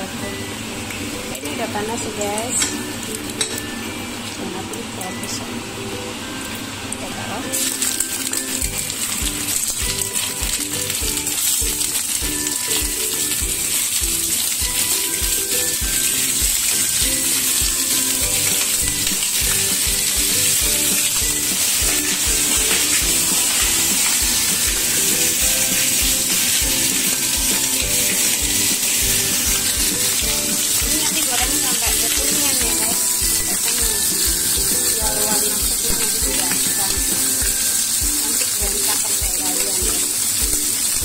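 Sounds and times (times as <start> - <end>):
background music with steady beat: 0.0 - 41.0
fish frying in hot oil: 0.0 - 41.0.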